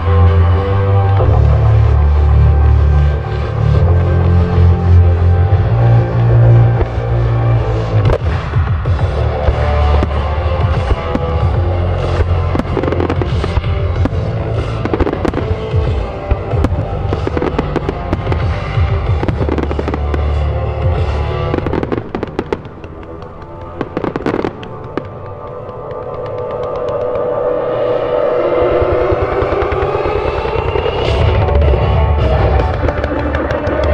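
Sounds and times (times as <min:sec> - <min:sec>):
music: 0:00.0 - 0:33.9
fireworks bangs and crackles: 0:05.5 - 0:33.9.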